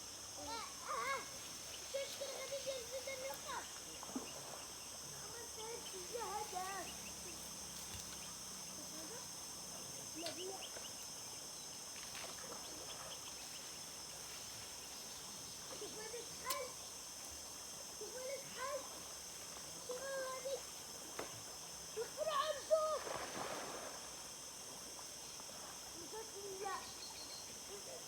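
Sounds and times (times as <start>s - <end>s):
high-pitched insect drone: 0.0s - 28.0s.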